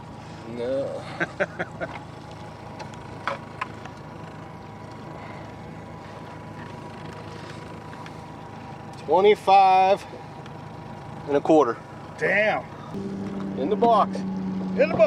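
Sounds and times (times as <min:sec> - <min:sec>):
boat motor humming: 0:01.0 - 0:15.0.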